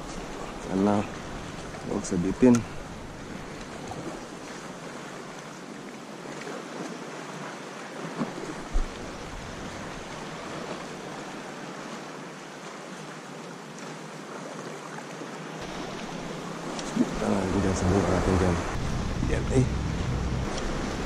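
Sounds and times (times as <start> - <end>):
small sea waves washing: 0.0 - 21.0
wind: 0.0 - 21.0.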